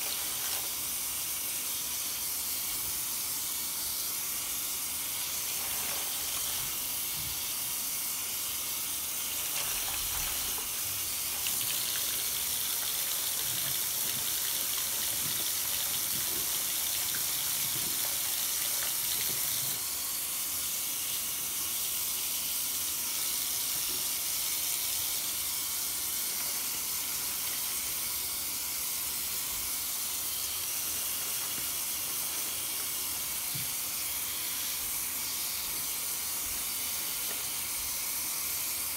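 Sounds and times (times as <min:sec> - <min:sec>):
faucet water running into sink: 0:00.0 - 0:38.9.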